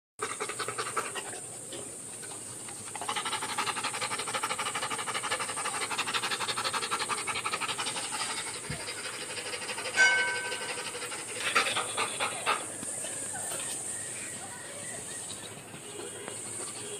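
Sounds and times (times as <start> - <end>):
dog panting: 0.2 - 16.9.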